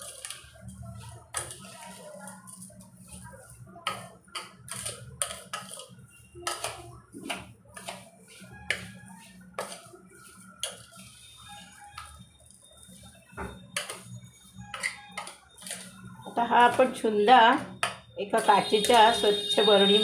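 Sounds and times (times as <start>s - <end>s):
metal spoon scraping a bowl: 0.0s - 3.2s, 3.8s - 12.2s, 13.7s - 16.0s, 17.8s - 20.0s.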